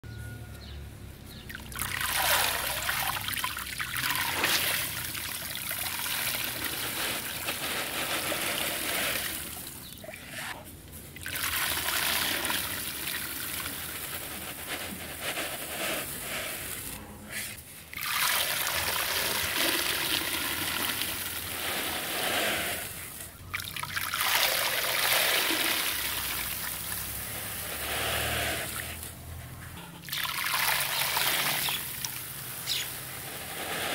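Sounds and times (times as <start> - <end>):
dirt pouring into water: 1.5 - 10.2, 11.1 - 17.0, 17.8 - 29.4, 30.0 - 33.9.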